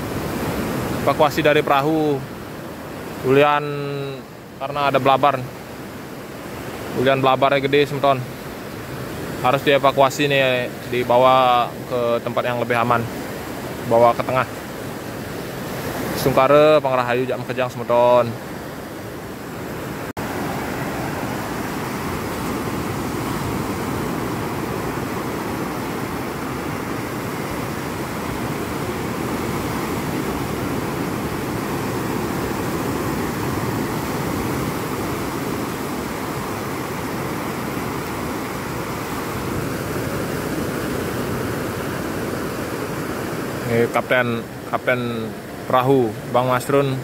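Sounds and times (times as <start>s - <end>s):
surf washing in: 0.0s - 47.0s.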